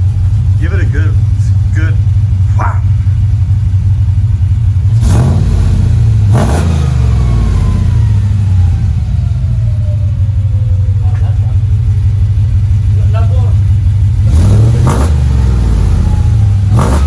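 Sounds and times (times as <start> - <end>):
truck engine idling and revving: 0.0 - 17.0.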